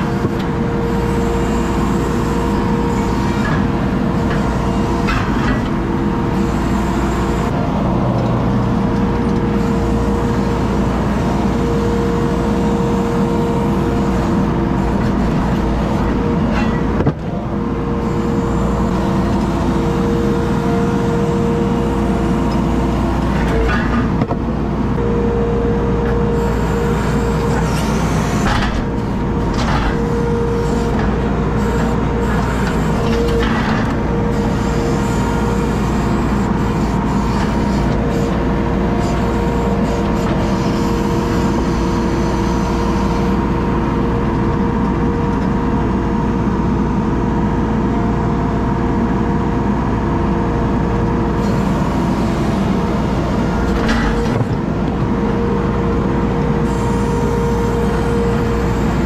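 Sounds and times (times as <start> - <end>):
loader diesel engine and hydraulics: 0.0 - 59.0.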